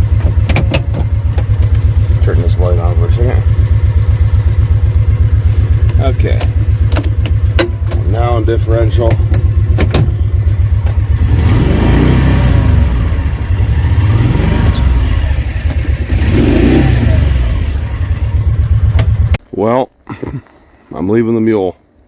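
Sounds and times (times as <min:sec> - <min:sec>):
vehicle engine revving: 0:00.0 - 0:19.4.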